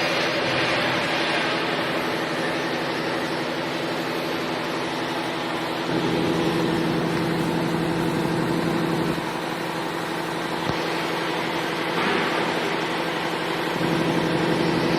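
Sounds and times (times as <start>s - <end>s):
laser engraver humming: 0.0s - 14.9s.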